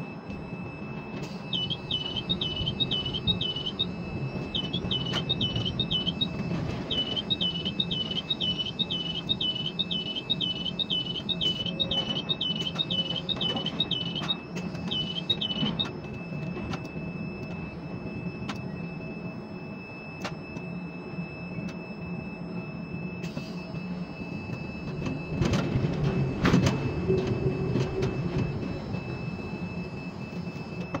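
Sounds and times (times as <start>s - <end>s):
crane humming: 0.0s - 31.0s
high warning beeper chirping: 0.0s - 31.0s.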